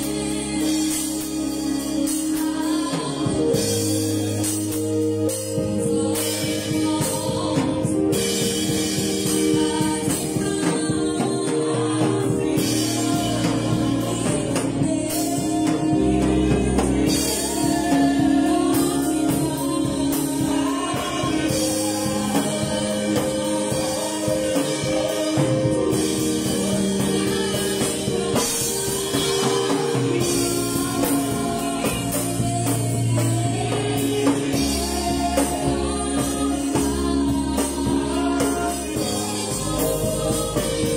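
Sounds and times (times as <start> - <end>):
woman singing: 0.0 - 4.3, 5.5 - 40.9
drum kit with cymbals: 0.0 - 40.9
electronic keyboard: 0.0 - 40.9.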